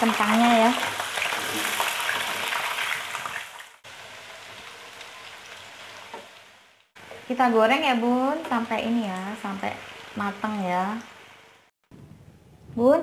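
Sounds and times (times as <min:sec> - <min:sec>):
potatoes sizzling in hot oil: 0:00.0 - 0:11.7.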